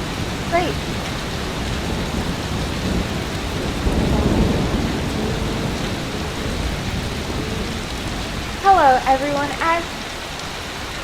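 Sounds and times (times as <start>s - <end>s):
heavy rain falling: 0.0s - 11.0s
thunder rumbling: 0.0s - 11.0s.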